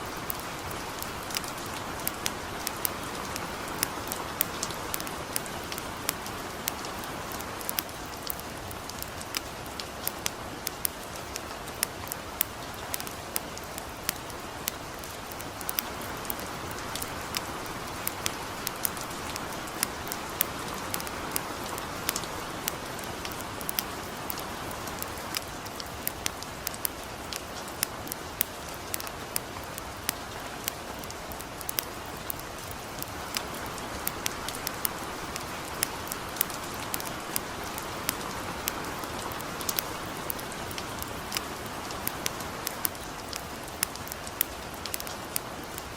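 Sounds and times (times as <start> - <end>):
campfire crackling and popping: 0.0 - 45.9
light rain hiss: 0.0 - 45.9.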